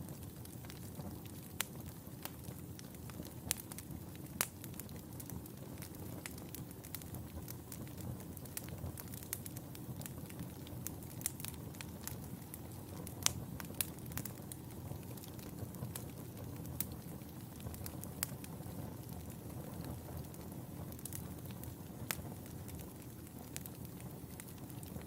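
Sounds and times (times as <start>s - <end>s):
wood fire crackling: 0.0s - 25.0s
loud fire pops: 0.1s - 25.0s.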